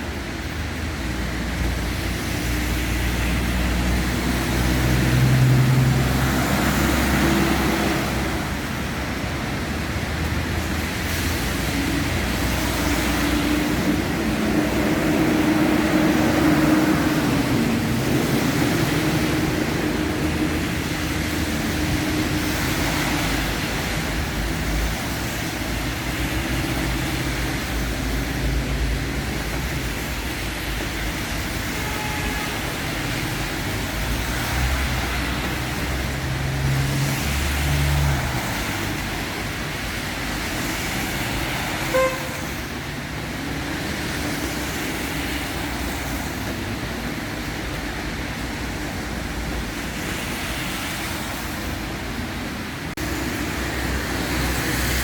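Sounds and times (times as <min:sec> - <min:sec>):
cars passing on a street: 0:00.0 - 0:55.0.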